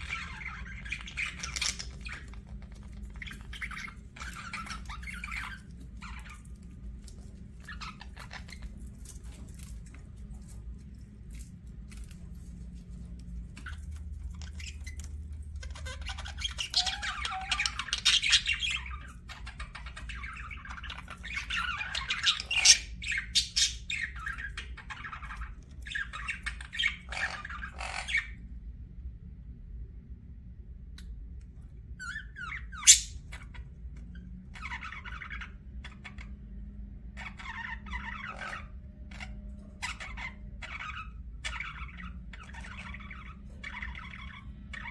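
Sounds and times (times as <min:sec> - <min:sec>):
budgies chirping and chattering: 0:00.0 - 0:10.6, 0:13.6 - 0:28.4, 0:32.0 - 0:44.9.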